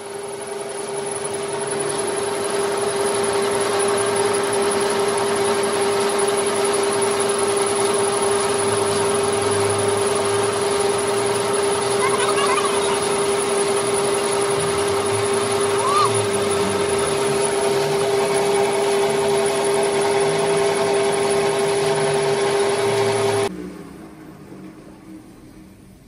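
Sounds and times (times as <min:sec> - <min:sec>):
metal lathe humming with whine: 0:00.0 - 0:26.0.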